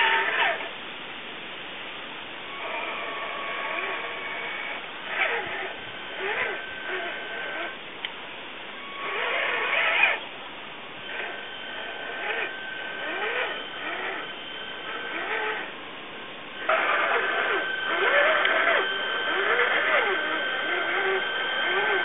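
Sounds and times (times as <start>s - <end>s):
rc truck motor whining: 0.0s - 0.7s, 2.5s - 7.8s, 8.8s - 10.2s, 11.0s - 15.8s, 16.6s - 22.0s.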